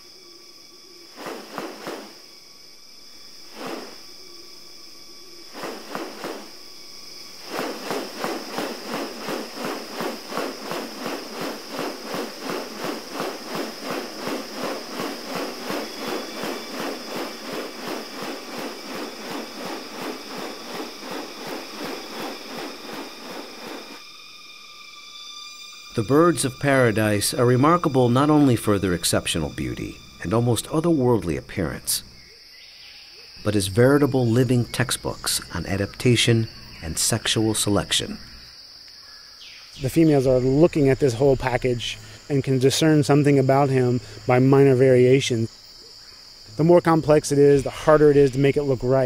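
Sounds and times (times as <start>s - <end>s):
high-pitched insect drone: 0.0s - 49.0s.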